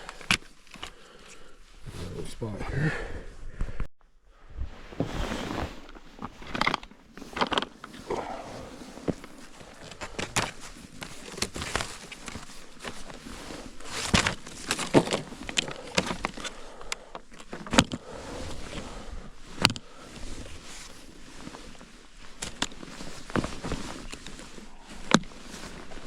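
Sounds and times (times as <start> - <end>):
snowshoe buckles and straps clicking: 0.0 - 2.2, 4.9 - 26.0.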